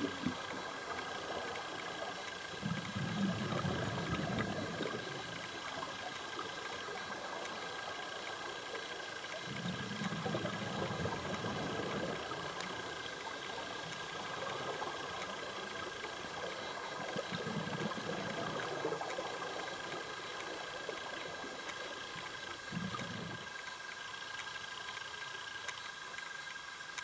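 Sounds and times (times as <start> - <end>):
underwater hiss: 0.0 - 24.3
regulator exhaust bubbles: 0.0 - 27.0
small clicks: 0.0 - 27.0.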